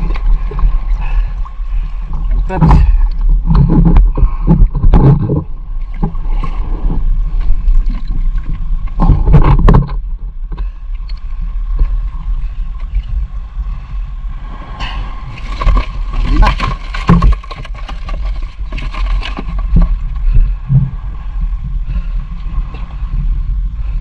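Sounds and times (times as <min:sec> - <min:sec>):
small boat engine rumble: 0:00.0 - 0:24.0.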